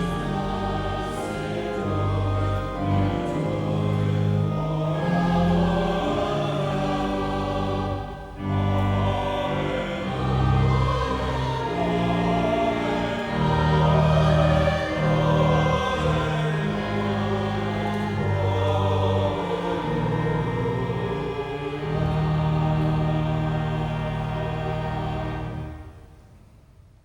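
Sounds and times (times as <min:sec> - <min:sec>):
sustained instrumental accompaniment: 0:00.0 - 0:26.1
church choir singing: 0:00.0 - 0:26.2.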